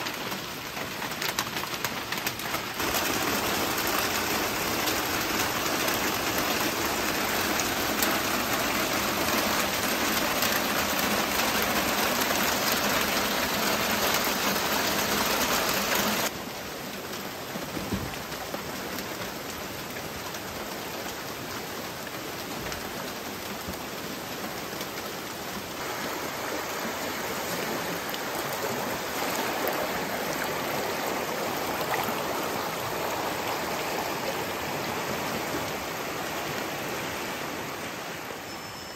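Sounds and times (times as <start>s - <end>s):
heavy rain hissing: 2.2s - 18.4s, 19.7s - 38.5s
stream rushing over rocks: 2.6s - 16.5s, 19.6s - 38.7s.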